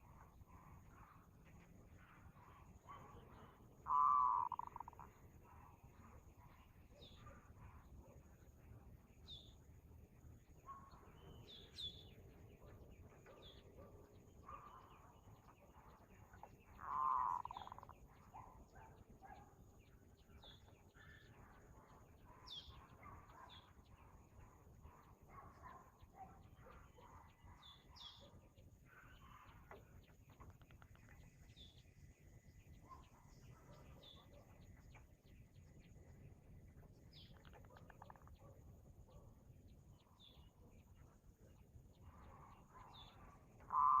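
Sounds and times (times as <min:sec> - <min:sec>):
faint birds chirping: 0:00.0 - 0:44.0.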